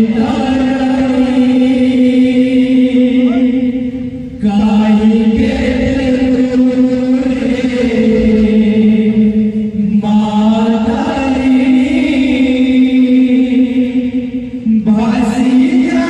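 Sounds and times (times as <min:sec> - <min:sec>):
group chanting in long notes: 0:00.0 - 0:16.0.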